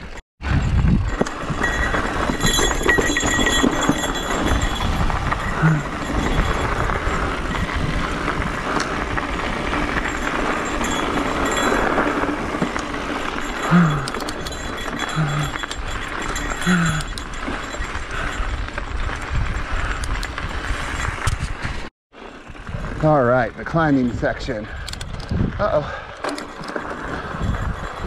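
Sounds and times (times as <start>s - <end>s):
bike tyres rumbling on dirt: 0.0s - 24.5s, 25.1s - 28.0s
bike rattling and knocking: 0.0s - 28.0s.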